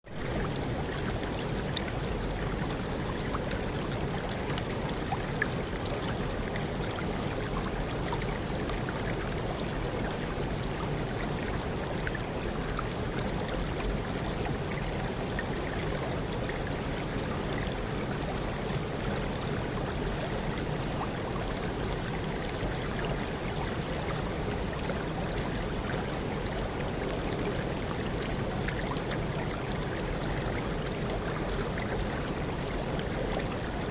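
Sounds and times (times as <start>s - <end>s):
small waterfall rushing: 0.1s - 33.9s.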